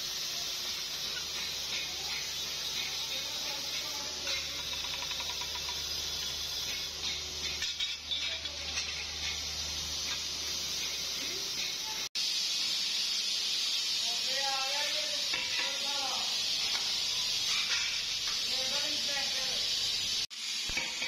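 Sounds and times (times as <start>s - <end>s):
polishing wheel hissing against pipe: 0.0s - 20.3s.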